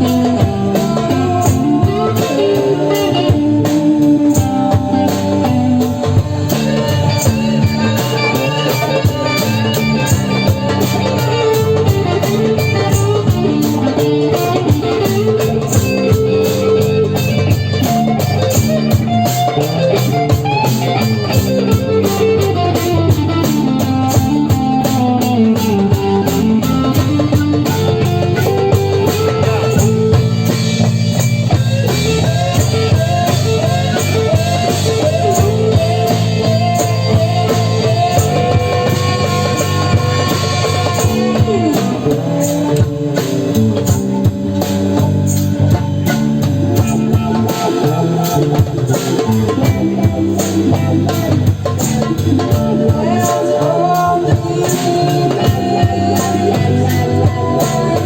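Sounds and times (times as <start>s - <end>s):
fast driving beat: 0.0s - 58.0s
plucked guitar-like sound: 0.0s - 58.0s.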